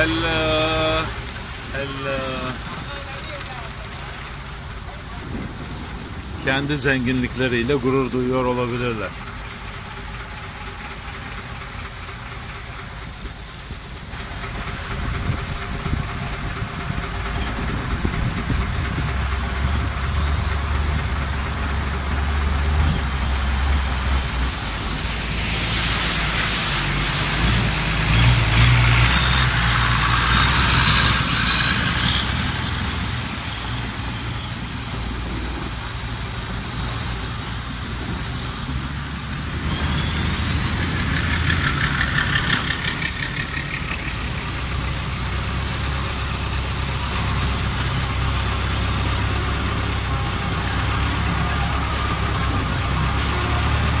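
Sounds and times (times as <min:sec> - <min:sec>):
boat engine running: 0:00.0 - 0:54.0
boat wake rushing: 0:00.0 - 0:54.0
passing boat engine whining: 0:00.0 - 0:54.0.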